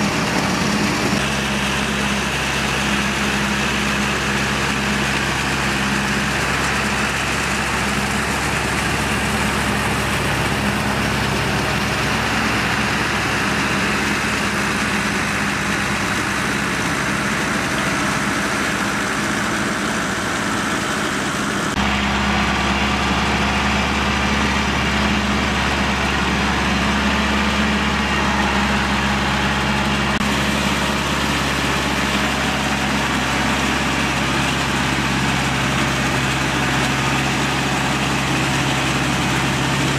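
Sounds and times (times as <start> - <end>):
rotary tiller churning water: 0.0 - 39.9
tractor diesel engine running: 0.0 - 39.9.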